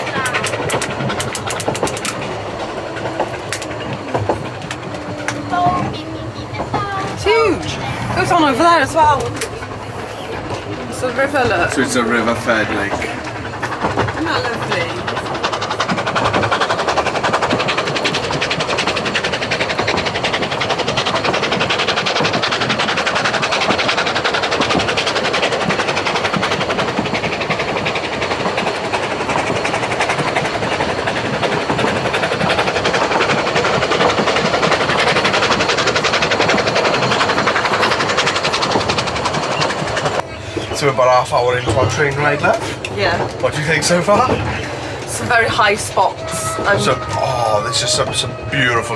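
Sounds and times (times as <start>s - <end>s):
carriage wheels clattering on rails: 0.0s - 48.9s.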